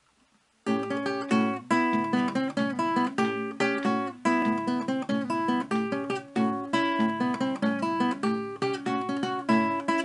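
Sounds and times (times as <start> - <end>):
guitar strumming blues chords: 0.6 - 10.0.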